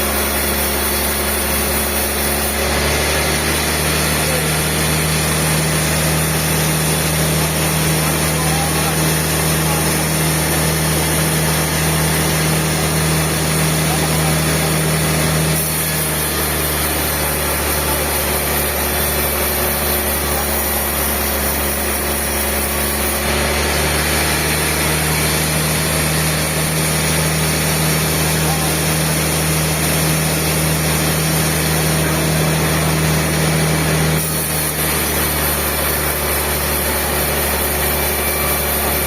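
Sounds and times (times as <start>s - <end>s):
machine engine droning: 0.0s - 39.0s.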